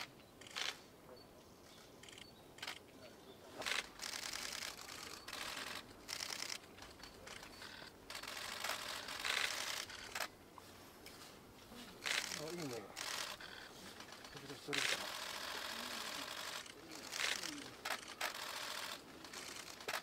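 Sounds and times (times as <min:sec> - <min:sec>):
camera shutters clicking in bursts: 0:00.0 - 0:00.8, 0:02.0 - 0:02.9, 0:03.6 - 0:10.3, 0:12.0 - 0:20.0.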